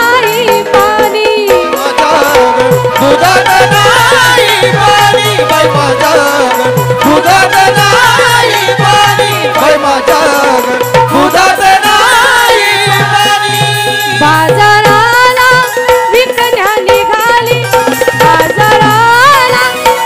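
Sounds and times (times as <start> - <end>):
tabla drumming: 0.0 - 20.0.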